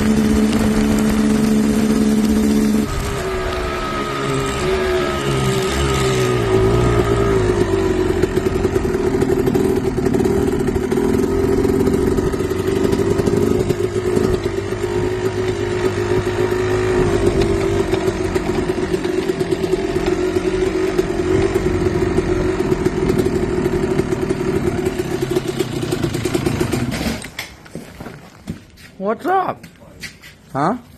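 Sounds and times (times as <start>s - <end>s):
engine running steadily: 0.0s - 27.4s.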